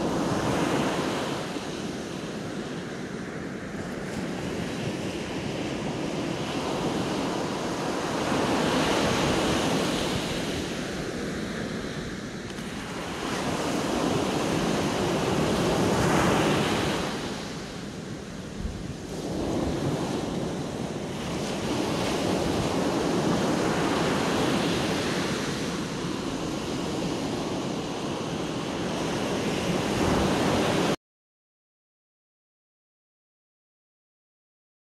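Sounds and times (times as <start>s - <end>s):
surf breaking on a beach: 0.0s - 31.0s.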